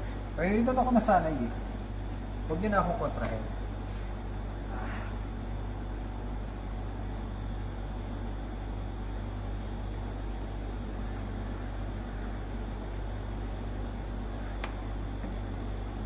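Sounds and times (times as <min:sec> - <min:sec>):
refrigerator compressor humming: 0:00.0 - 0:16.0.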